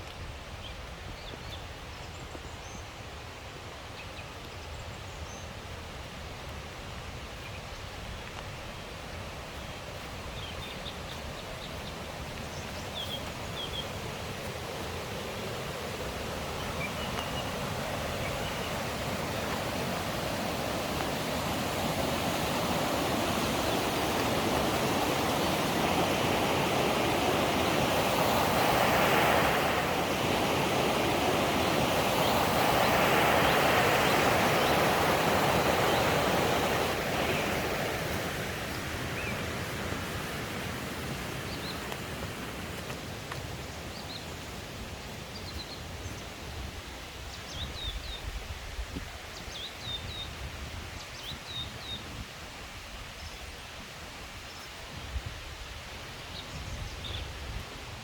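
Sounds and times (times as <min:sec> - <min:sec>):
stream rushing over rocks: 0:05.5 - 0:58.0.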